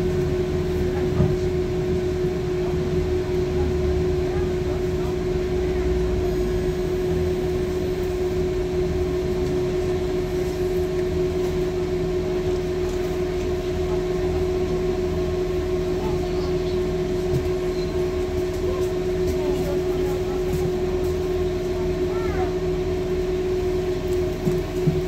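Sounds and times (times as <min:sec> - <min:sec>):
bus engine rumble: 0:00.0 - 0:25.0
steady humming tone: 0:00.0 - 0:25.0.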